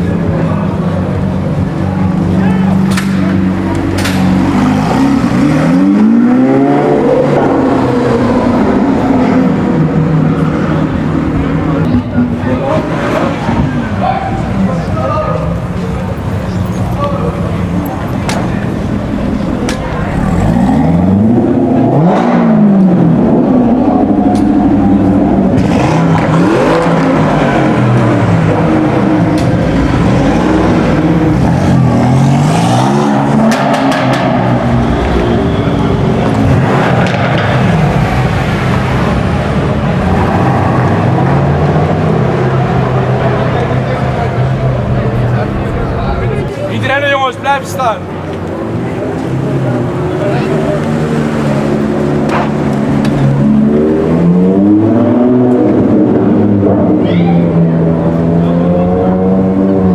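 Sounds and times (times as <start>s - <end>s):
exhaust cracks: 0.0s - 6.3s, 7.2s - 57.1s
car engine accelerating: 0.0s - 59.9s.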